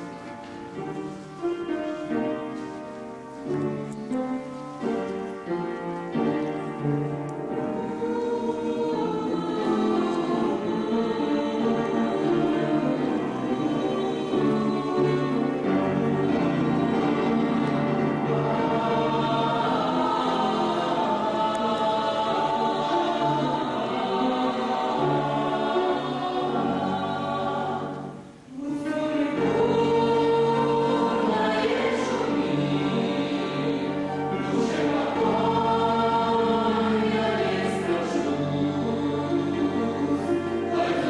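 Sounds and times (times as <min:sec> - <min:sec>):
vocal group singing a hymn: 0:07.4 - 0:41.0.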